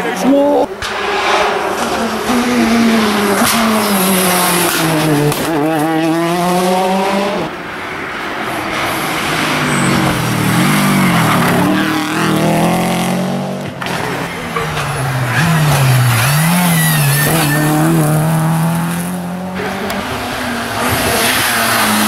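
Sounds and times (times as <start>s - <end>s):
rally cars revving past: 0.8s - 22.0s.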